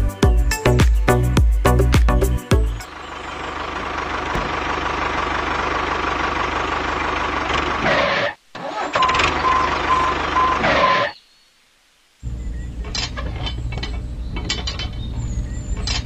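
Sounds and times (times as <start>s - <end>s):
tractor engine running: 1.6s - 11.1s, 12.3s - 16.0s.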